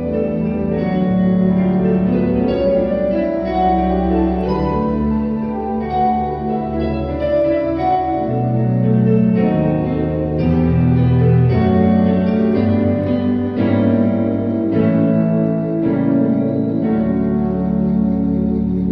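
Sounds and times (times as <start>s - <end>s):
keyboard playing chords and bass: 0.0s - 18.9s.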